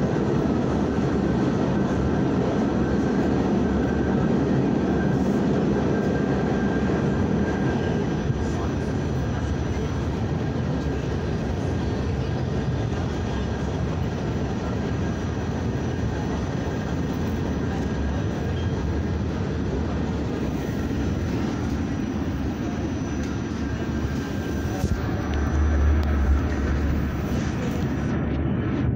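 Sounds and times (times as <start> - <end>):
subway train rumbling on tracks: 0.0 - 28.9.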